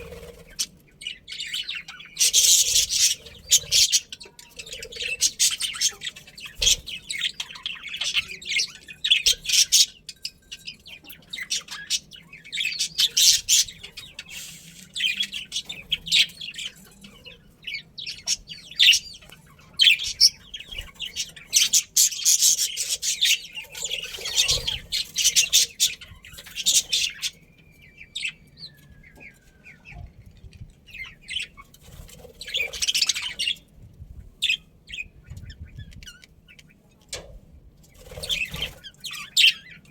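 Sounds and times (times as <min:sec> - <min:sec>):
budgerigars chattering and chirping: 0:00.0 - 0:33.8, 0:34.4 - 0:37.2, 0:37.9 - 0:39.9.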